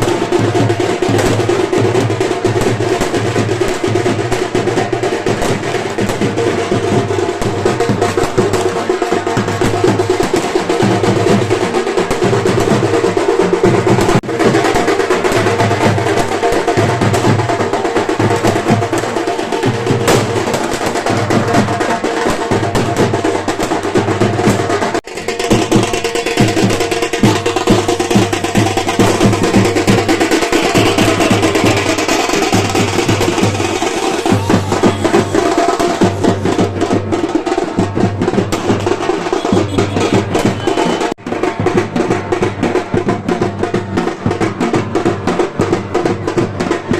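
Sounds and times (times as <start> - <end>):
loud drum-driven music: 0.0 - 46.9.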